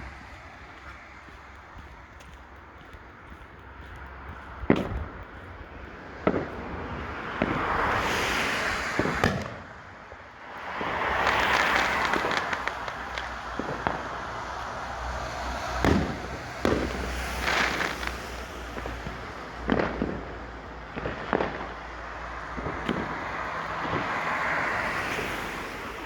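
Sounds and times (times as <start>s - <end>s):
fireworks bangs: 0.0s - 14.4s, 15.8s - 24.8s
crackling hiss of fireworks: 0.0s - 26.0s.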